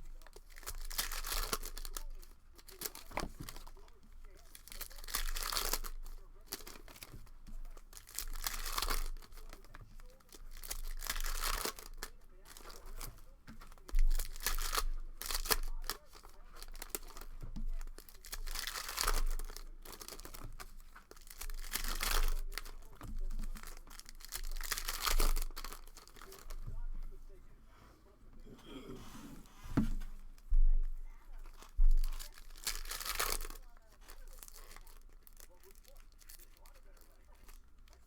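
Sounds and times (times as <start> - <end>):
card pack wrappers tearing: 0.0 - 26.7, 31.4 - 38.0
wrapper crinkling: 0.0 - 27.4, 29.9 - 38.0.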